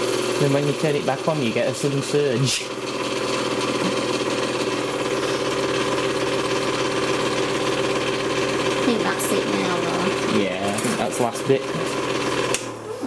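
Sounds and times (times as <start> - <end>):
candyfloss machine humming: 0.0 - 13.0.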